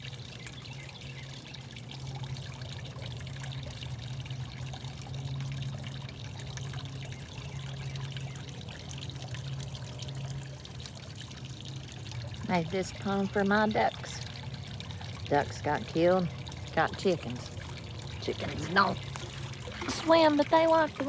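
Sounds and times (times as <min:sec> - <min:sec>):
steady low hum: 0:00.0 - 0:21.0
waterfall trickling into pond: 0:00.0 - 0:21.0.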